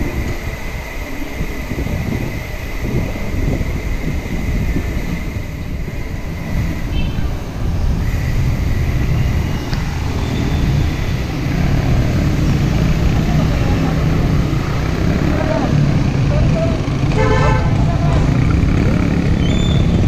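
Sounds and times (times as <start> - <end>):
tyre noise on wet road: 0.0 - 20.0
wind buffeting microphone: 0.0 - 20.0.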